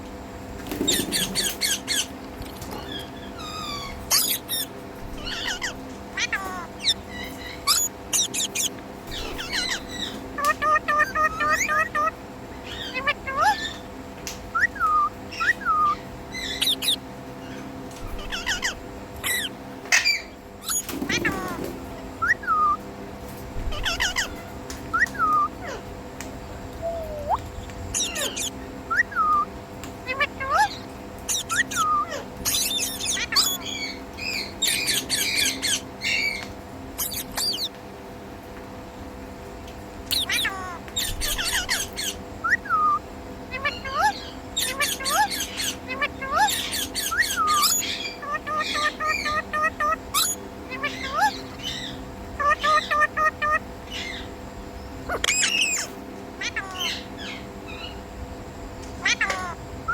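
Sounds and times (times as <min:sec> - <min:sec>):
parakeet whistling and chirping: 0:00.8 - 0:02.1, 0:02.9 - 0:13.8, 0:14.5 - 0:17.0, 0:18.1 - 0:21.5, 0:22.2 - 0:22.8, 0:23.7 - 0:25.8, 0:26.8 - 0:29.5, 0:30.1 - 0:36.4, 0:37.0 - 0:37.7, 0:40.1 - 0:54.3, 0:55.1 - 0:58.0, 0:59.0 - 0:59.9.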